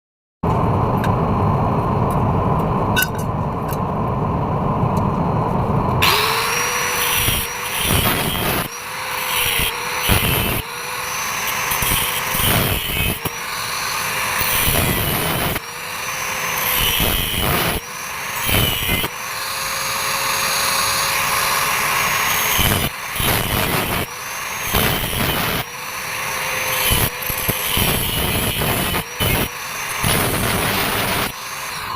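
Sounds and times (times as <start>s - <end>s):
welder hum: 0.5s - 31.9s
welding arc crackling hiss: 6.0s - 31.9s.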